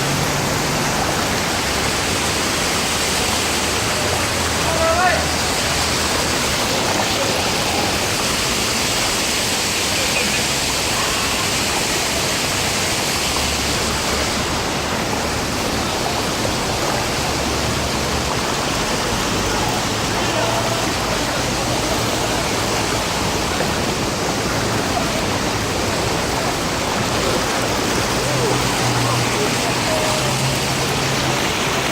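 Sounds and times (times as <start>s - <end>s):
heavy rain: 0.0s - 31.9s
running water: 0.0s - 31.9s.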